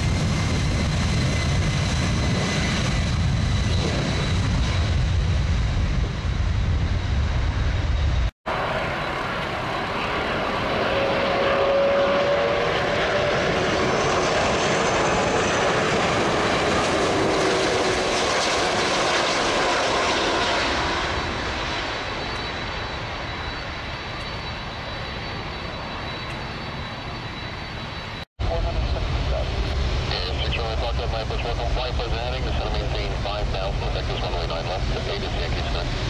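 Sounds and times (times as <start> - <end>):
jet airliner engines passing: 0.0 - 36.0.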